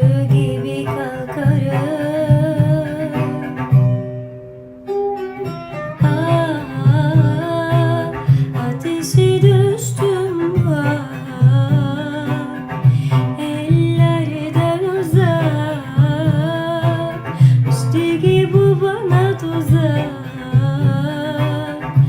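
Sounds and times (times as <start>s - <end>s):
woman singing: 0.0s - 4.0s, 6.0s - 22.0s
plucked strings: 0.0s - 22.0s.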